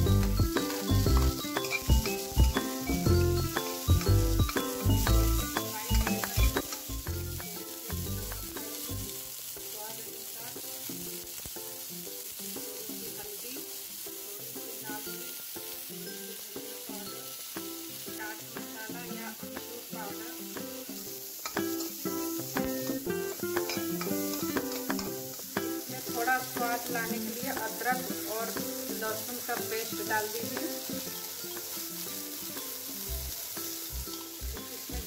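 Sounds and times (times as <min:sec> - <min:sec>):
light background music: 0:00.0 - 0:35.0
onion and tomato sizzling in oil: 0:00.0 - 0:35.0.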